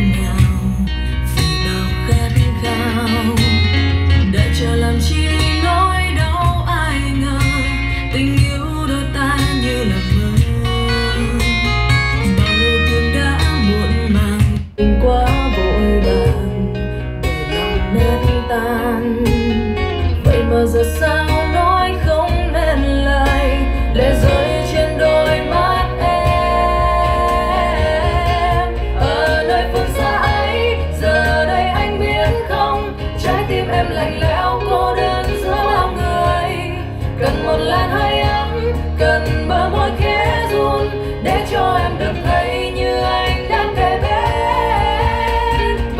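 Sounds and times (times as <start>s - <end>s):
pop ballad with guitar and singing: 0.0s - 45.9s.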